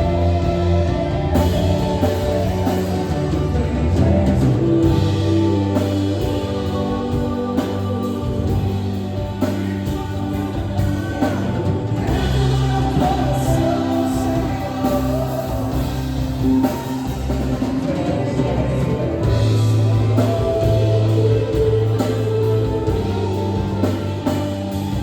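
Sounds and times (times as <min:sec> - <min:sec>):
gospel band music: 0:00.0 - 0:25.0
person singing: 0:00.0 - 0:25.0.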